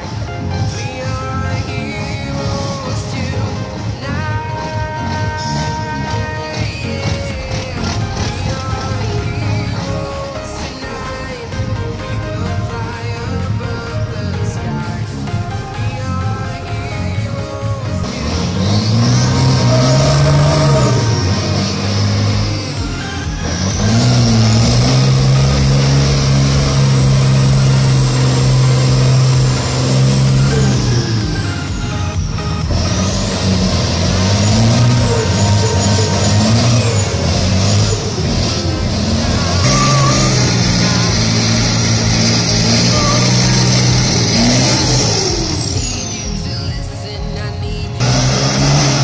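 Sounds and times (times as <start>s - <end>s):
diesel engine revving hard: 0.0s - 47.0s, 47.9s - 49.0s
tyres spinning: 0.0s - 49.0s.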